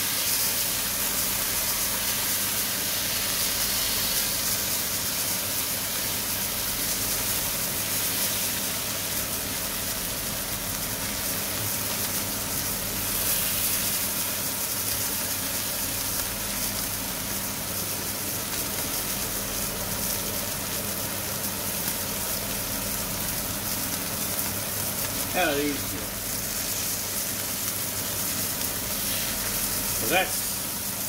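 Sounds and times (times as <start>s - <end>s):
patties sizzling in a frying pan: 0.0s - 31.0s.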